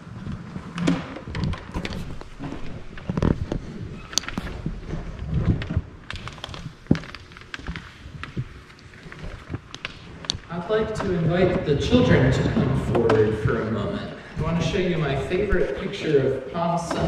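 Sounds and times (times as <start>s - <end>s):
footsteps: 0.0s - 17.0s
low room rumble: 0.0s - 17.0s.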